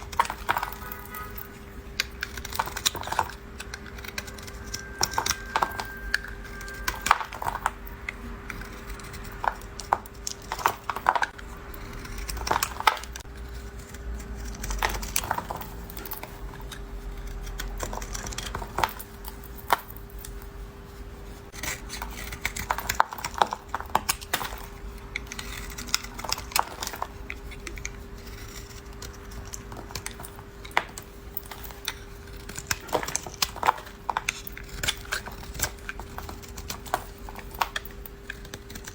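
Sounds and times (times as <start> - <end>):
knife cutting soap: 0.0 - 20.4, 21.5 - 38.9.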